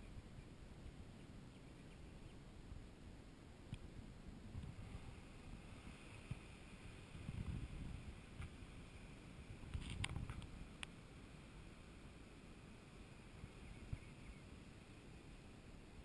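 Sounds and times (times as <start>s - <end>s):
ocean surf rumble: 2.4s - 16.0s.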